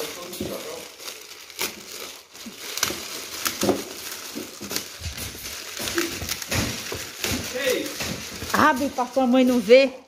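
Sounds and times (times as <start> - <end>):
wrapping paper crinkling: 0.0 - 10.0.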